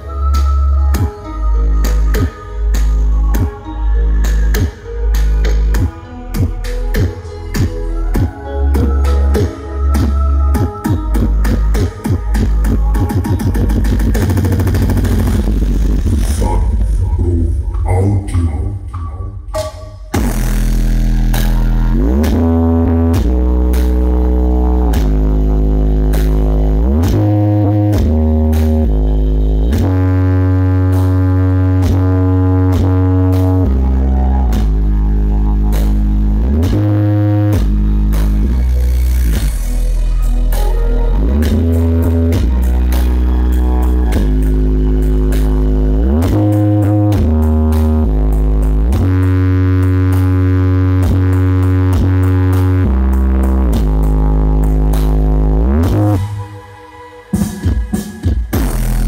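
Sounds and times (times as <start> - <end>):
buzzy sliding bass notes: 0.0 - 56.8, 58.5 - 59.0
loud electronic dance music: 0.0 - 59.0.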